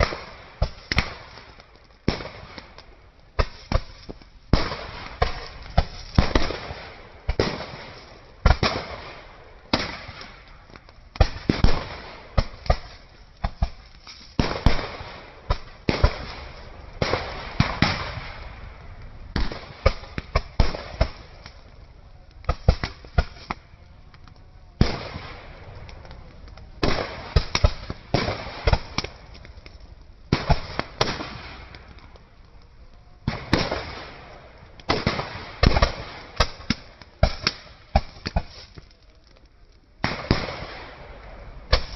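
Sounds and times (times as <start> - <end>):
firecrackers banging: 0.0 - 21.8, 22.4 - 39.2, 40.0 - 41.9.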